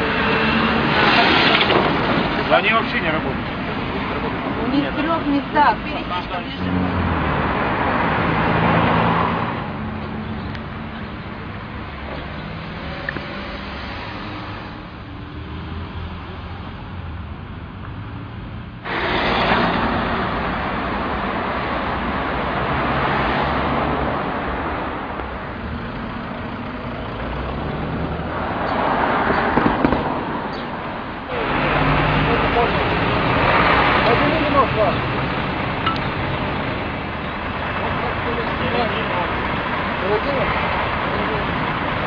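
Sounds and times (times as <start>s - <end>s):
vehicle passing close by: 0.0s - 17.3s, 18.0s - 42.0s
steady traffic noise: 0.0s - 42.0s.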